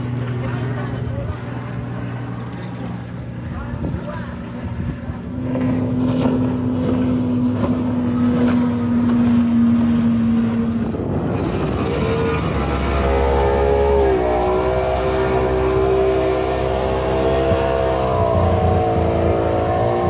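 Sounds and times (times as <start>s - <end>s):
racing powerboat engine: 0.0s - 20.0s.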